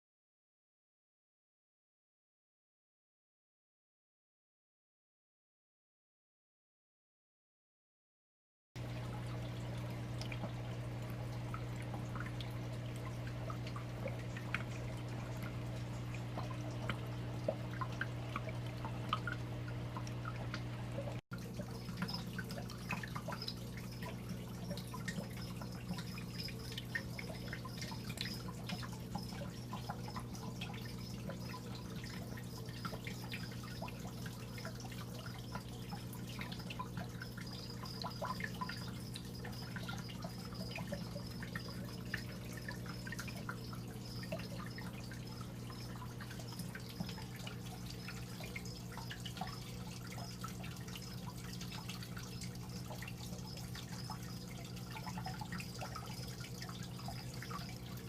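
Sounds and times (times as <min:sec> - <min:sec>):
water dripping and trickling: 0:08.8 - 0:58.0
water pump hum: 0:08.8 - 0:58.0.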